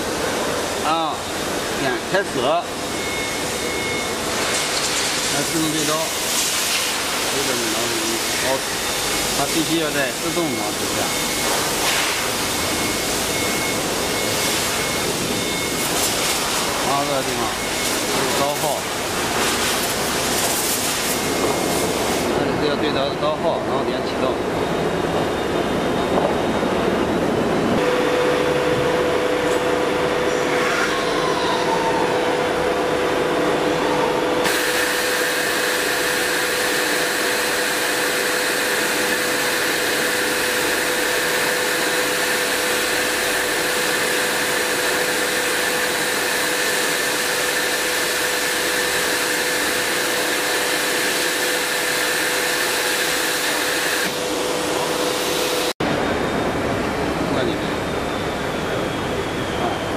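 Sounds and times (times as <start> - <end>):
cnc router drives whining: 0.0 - 4.8, 7.4 - 19.3, 22.2 - 59.9.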